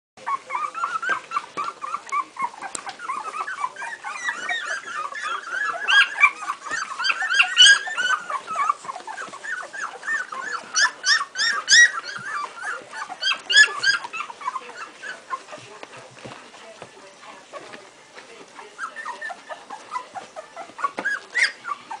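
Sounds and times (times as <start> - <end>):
puppies whimpering and squeaking: 0.2 - 22.0.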